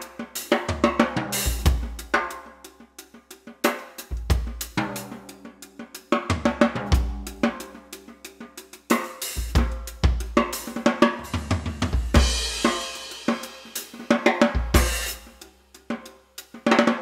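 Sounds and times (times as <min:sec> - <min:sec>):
drum kit playing: 0:00.0 - 0:17.0.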